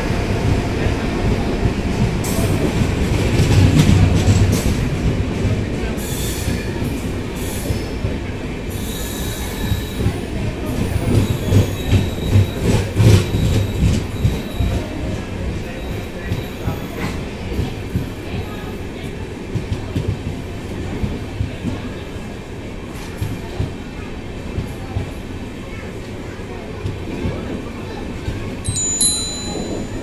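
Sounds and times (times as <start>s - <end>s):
rhythmic clatter over rail joints: 0.0s - 26.0s
train wheels rumbling on rail: 0.0s - 30.0s.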